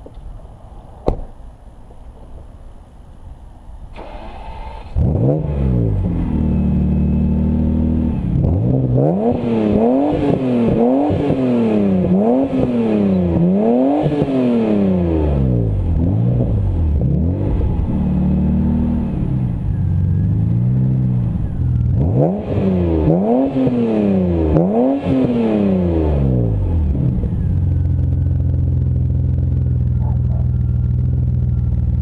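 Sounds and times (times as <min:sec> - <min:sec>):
car engine starting and idling: 0:03.7 - 0:32.0
car engine revving: 0:03.9 - 0:32.0.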